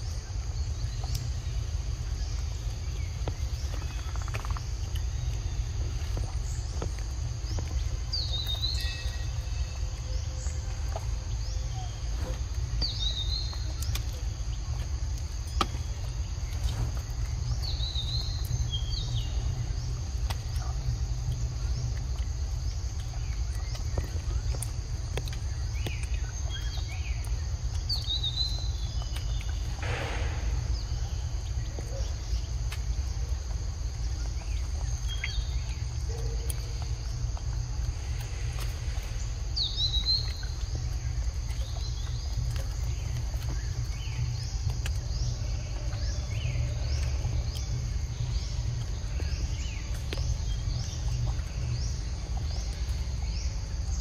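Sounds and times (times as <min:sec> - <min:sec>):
low rumble: 0:00.0 - 0:36.0, 0:36.6 - 0:54.0
high insect drone: 0:00.0 - 0:54.0.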